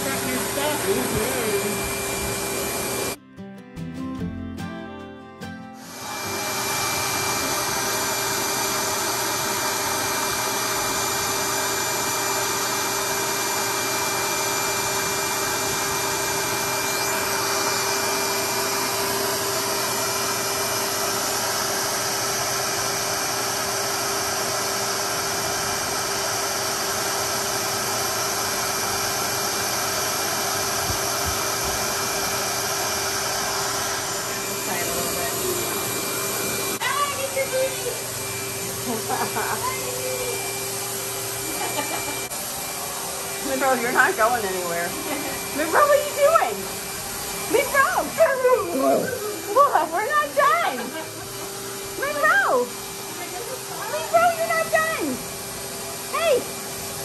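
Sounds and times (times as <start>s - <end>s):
pet dryer blowing air: 0.0s - 3.2s, 5.8s - 57.0s.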